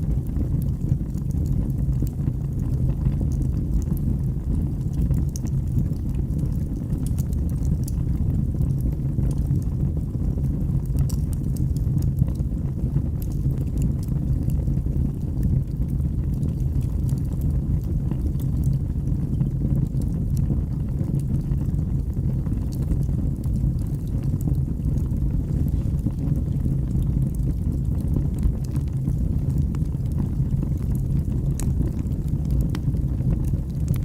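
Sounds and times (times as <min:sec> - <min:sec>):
fire crackles and pops: 0:00.0 - 0:34.0
low rush of fire: 0:00.0 - 0:34.0.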